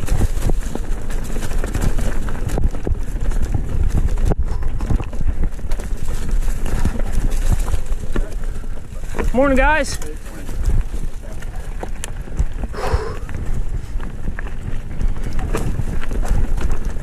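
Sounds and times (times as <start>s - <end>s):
mountain bike rattling over rocks: 0.0s - 17.0s.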